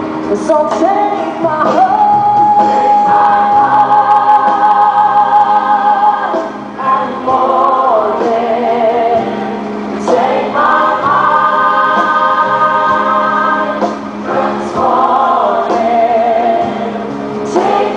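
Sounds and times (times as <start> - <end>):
gospel choir singing: 1.7 - 17.9.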